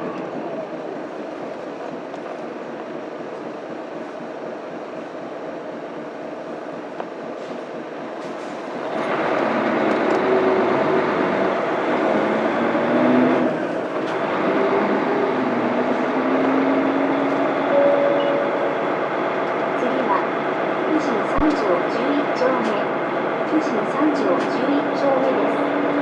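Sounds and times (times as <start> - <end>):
bus diesel engine accelerating: 0.0 - 26.0.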